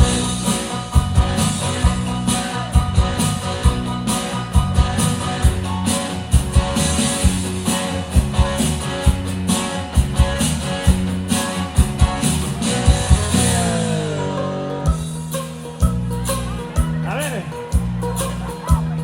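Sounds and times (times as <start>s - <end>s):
dance music with guitar and beat: 0.0s - 19.0s.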